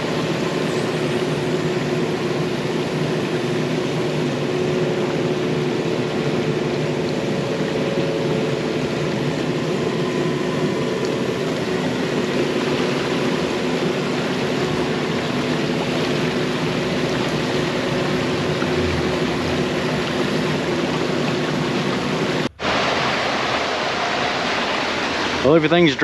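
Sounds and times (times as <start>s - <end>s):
excavator diesel engine running: 0.0s - 26.0s
water rushing: 0.0s - 26.0s.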